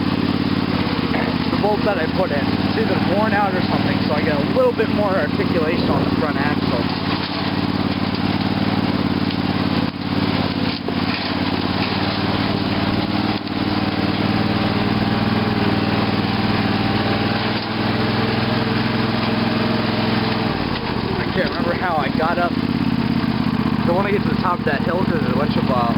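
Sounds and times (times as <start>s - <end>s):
lawn tractor engine running: 0.0s - 25.9s.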